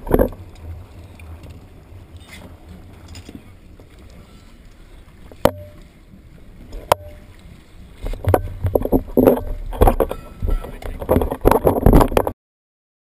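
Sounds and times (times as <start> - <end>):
muffled water sloshing and splashing: 0.0 - 12.3.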